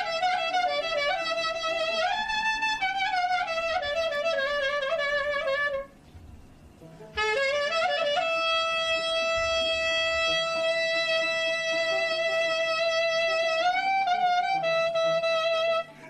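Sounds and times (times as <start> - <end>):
clarinet holding high note: 0.0 - 6.0, 7.0 - 16.0.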